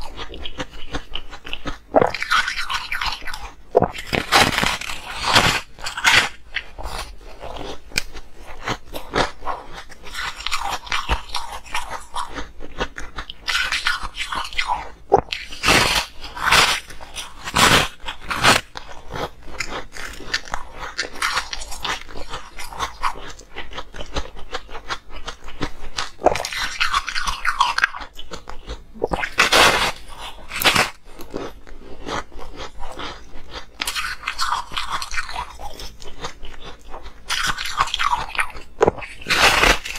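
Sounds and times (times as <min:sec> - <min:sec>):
biting and chewing ice: 0:00.0 - 0:39.9.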